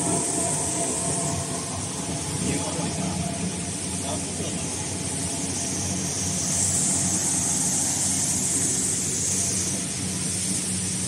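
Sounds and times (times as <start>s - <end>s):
high hiss: 0.0s - 11.0s
machinery electric hum: 0.0s - 11.0s.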